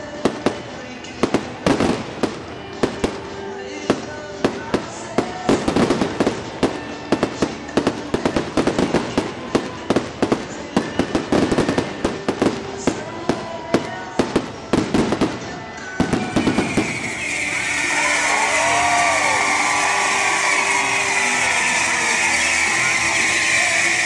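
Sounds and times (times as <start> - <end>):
firework fountain hissing: 0.0 - 24.0
fireworks crackling: 0.0 - 24.0.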